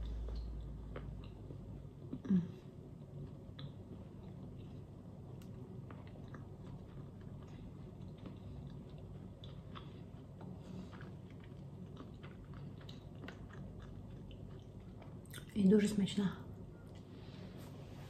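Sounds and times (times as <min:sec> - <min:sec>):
chewing bread: 0:00.0 - 0:16.0.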